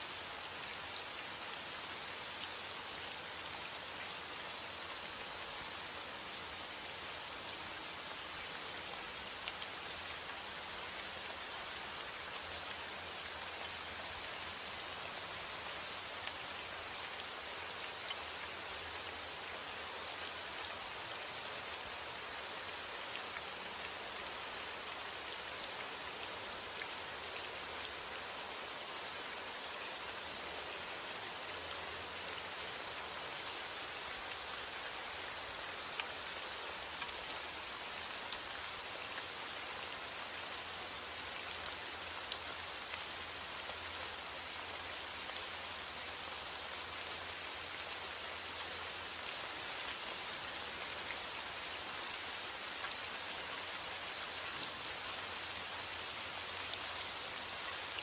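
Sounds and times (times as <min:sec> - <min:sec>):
heavy rain on a surface: 0:00.0 - 0:58.0.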